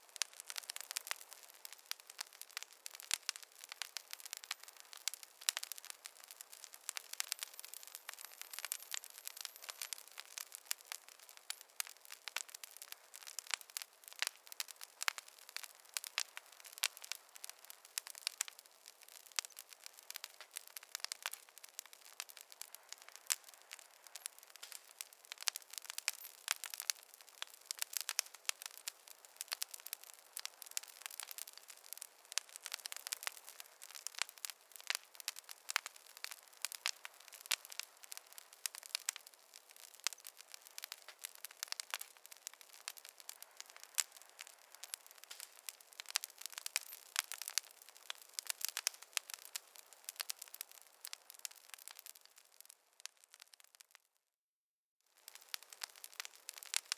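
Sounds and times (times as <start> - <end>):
campfire crackling: 0.0 - 54.0, 55.1 - 56.9.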